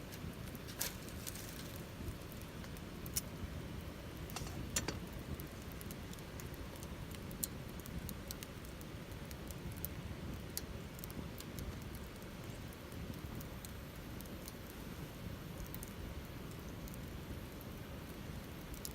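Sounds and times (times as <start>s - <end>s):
campfire wood crackling: 0.0s - 18.9s
low fire rumble: 0.0s - 18.9s.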